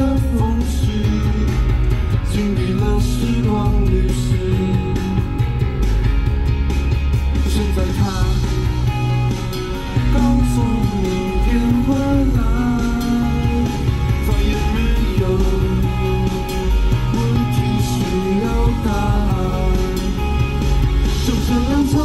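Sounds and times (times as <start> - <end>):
man singing: 0.0 - 5.6, 7.4 - 8.8, 9.9 - 22.0
rock backing track: 0.0 - 22.0.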